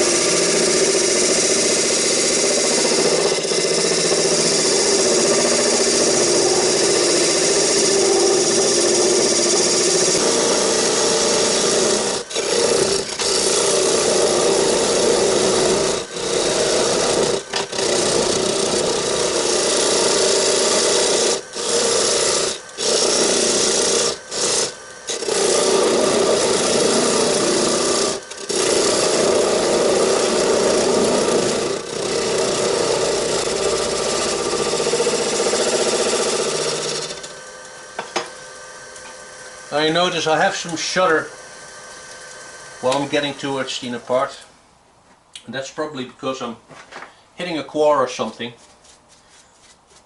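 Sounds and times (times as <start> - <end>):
lathe tool scraping wood: 0.0 - 44.4.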